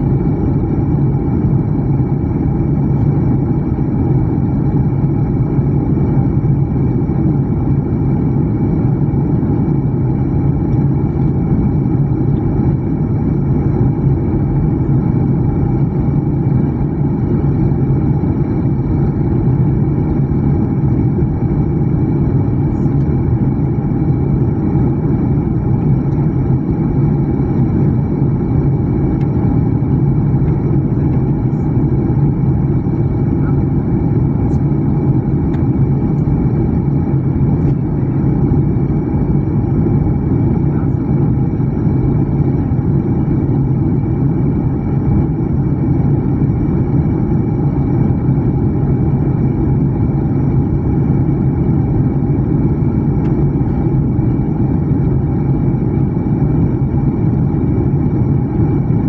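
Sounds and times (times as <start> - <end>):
jet engines and rushing air: 0.0 - 59.0
low hum: 0.0 - 59.0.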